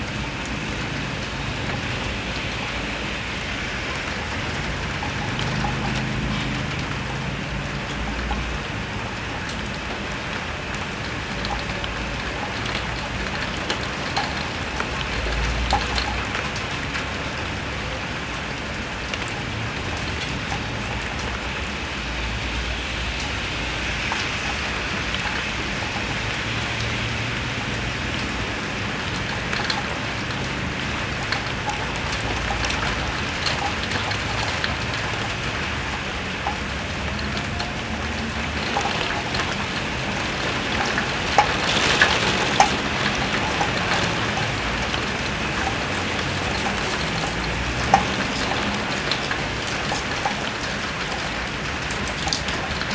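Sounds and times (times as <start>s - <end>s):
heavy rain: 0.0s - 52.9s
raindrops pattering on window: 0.0s - 52.9s.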